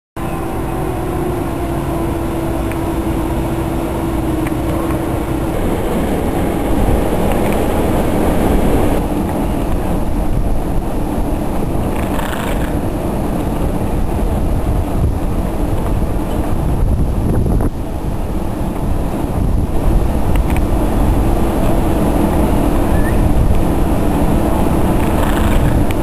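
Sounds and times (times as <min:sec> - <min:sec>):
locomotive steady hum: 0:00.2 - 0:26.0
train wheels rumbling on track: 0:00.2 - 0:26.0.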